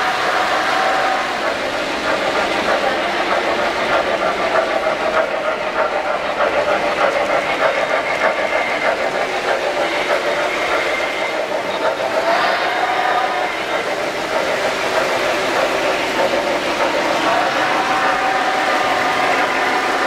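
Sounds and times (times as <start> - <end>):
model train wheels clicking: 0.0 - 20.0.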